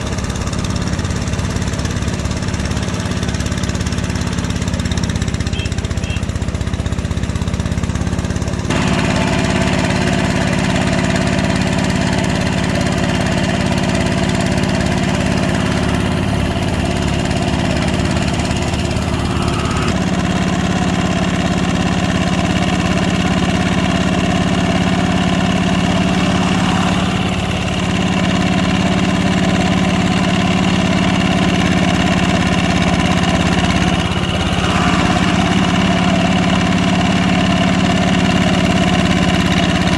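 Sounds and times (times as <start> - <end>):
hand tractor engine running: 0.0 - 39.9.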